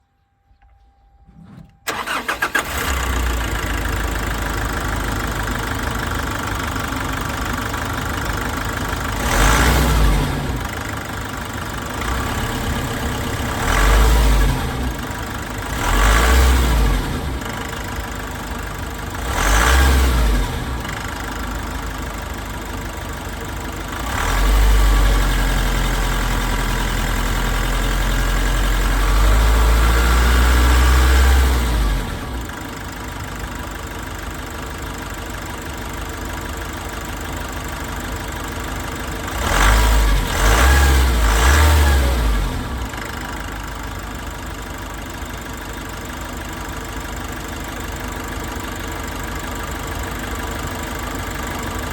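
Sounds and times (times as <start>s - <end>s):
diesel engine idling and revving: 1.3s - 51.9s.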